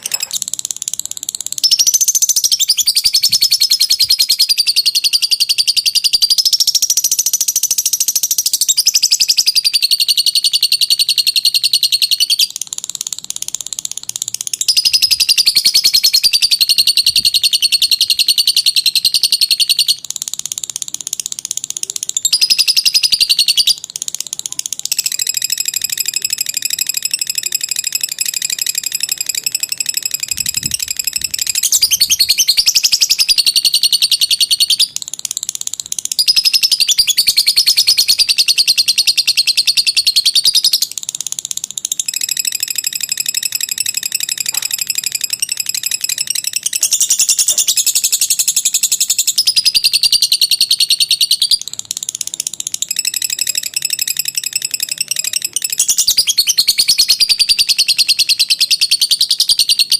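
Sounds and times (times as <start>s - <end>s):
lovebird chattering trill: 0.0s - 59.9s.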